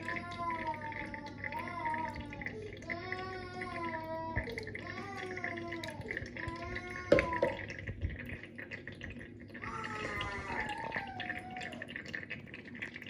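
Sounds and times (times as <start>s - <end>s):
water trickling and dripping: 0.0s - 13.0s.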